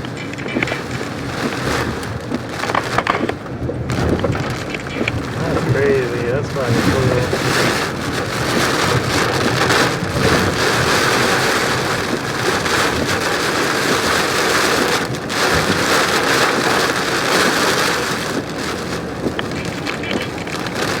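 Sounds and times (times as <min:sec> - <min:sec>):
car road noise: 0:00.0 - 0:21.0
rain hitting car roof: 0:00.0 - 0:21.0.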